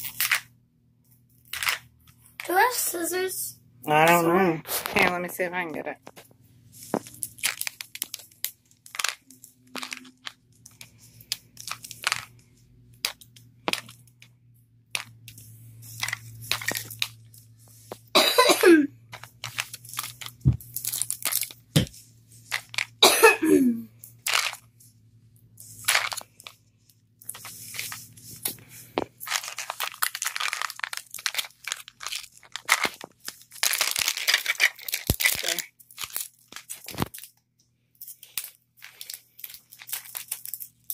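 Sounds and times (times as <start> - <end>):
plastic packaging crinkling: 4.7 - 14.3, 14.9 - 18.1, 19.1 - 23.1, 24.0 - 24.8, 25.5 - 40.9.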